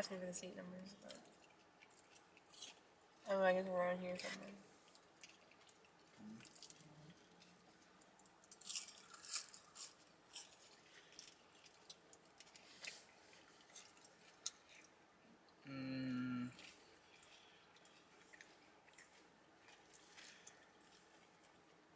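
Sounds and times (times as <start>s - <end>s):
chewing food: 0.8s - 21.9s.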